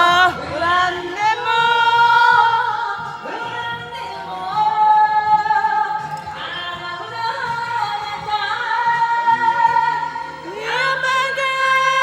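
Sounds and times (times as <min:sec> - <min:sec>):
karaoke backing track: 0:00.0 - 0:12.0
person singing a ballad: 0:00.0 - 0:12.0.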